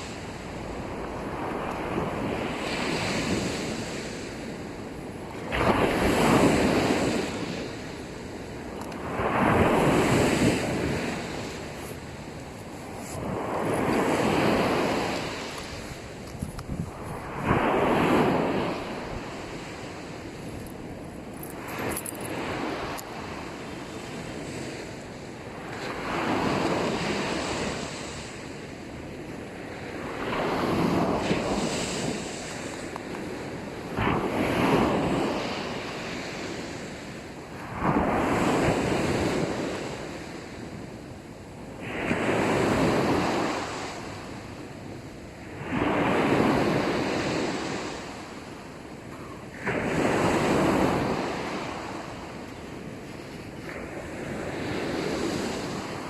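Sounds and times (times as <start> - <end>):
waves washing on sandy beach: 0.0 - 56.0.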